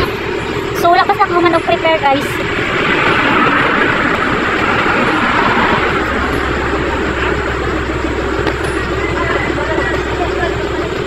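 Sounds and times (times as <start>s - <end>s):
car tyre and road noise: 0.0s - 11.0s
low engine hum: 0.0s - 11.0s.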